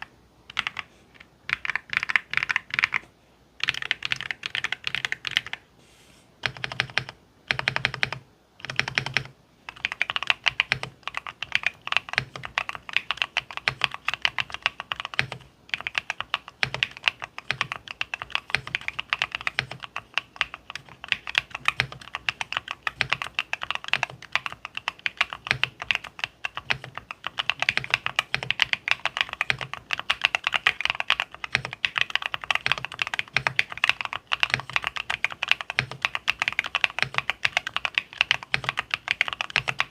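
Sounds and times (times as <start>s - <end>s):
mechanical keyboard typing: 0.0s - 5.6s, 6.4s - 39.9s.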